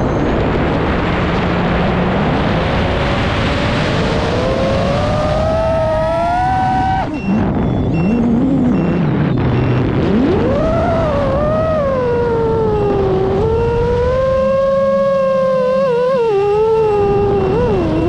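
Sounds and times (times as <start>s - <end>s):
heavy wind rush: 0.0s - 18.0s
drone motors whining: 2.4s - 18.0s.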